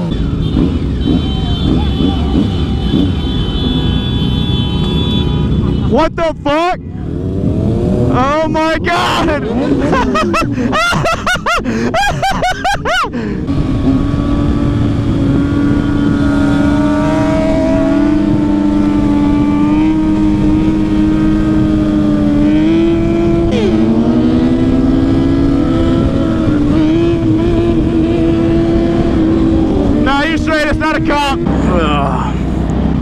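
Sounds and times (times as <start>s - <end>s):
motorcycle engine cruising: 0.0s - 33.0s
wind and road noise: 0.0s - 33.0s.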